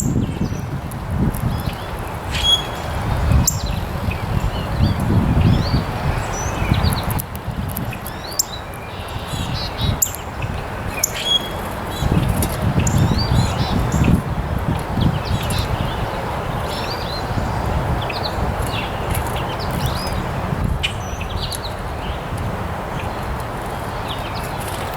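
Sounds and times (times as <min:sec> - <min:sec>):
small birds chirping: 0:01.4 - 0:22.3, 0:22.9 - 0:24.9.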